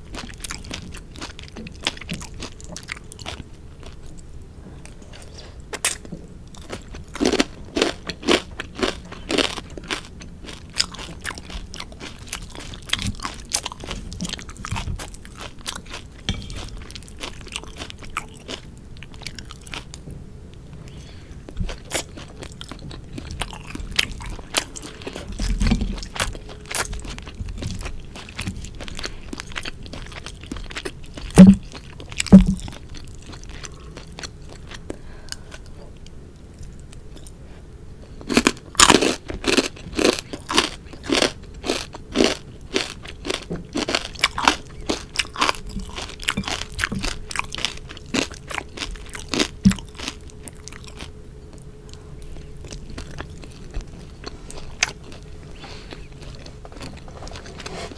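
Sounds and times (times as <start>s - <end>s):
crunchy chewing: 0.0s - 37.4s, 38.0s - 57.9s.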